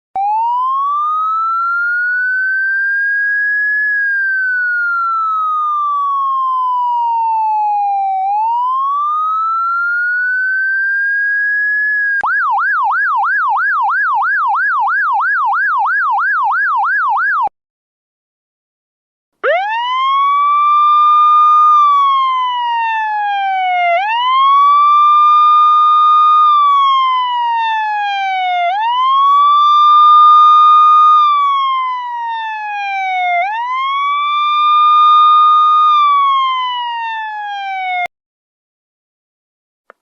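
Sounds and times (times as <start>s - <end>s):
police siren wailing: 0.2s - 17.5s, 19.4s - 38.1s.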